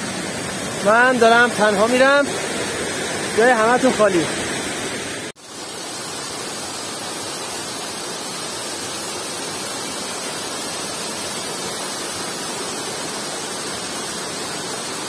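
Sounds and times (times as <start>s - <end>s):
small waterfall rushing over rocks: 0.0s - 15.0s.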